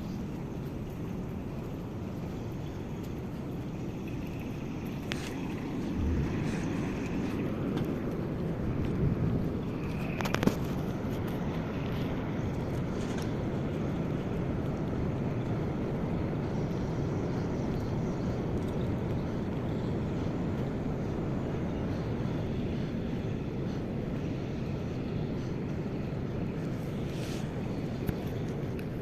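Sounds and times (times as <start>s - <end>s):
ship engines rumbling: 0.0s - 29.0s.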